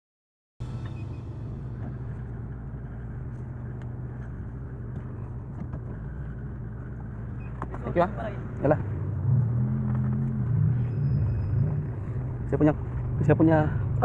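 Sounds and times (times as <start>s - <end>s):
car engine idling: 0.6s - 14.0s.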